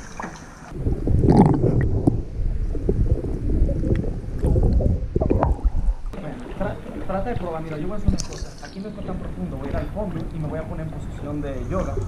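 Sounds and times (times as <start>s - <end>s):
underwater gurgling and bubbles: 0.0s - 12.0s.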